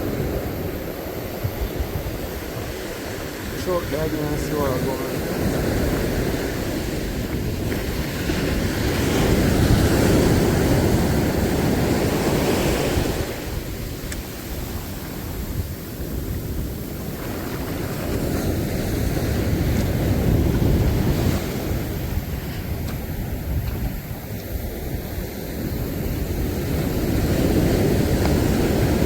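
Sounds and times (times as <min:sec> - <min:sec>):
sea surf washing: 0:00.0 - 0:29.0
wind buffeting microphone: 0:00.0 - 0:29.0.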